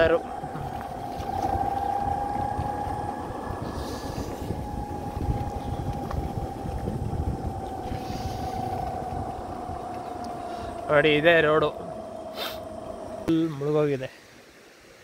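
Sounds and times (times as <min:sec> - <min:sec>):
vehicle engine whine: 0:00.0 - 0:13.3
wind buffeting microphone: 0:00.0 - 0:13.3.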